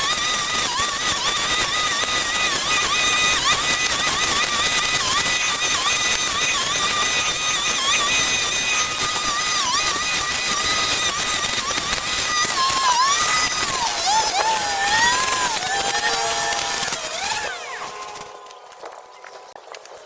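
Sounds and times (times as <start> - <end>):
petrol power tool engine whining: 0.0 - 19.6.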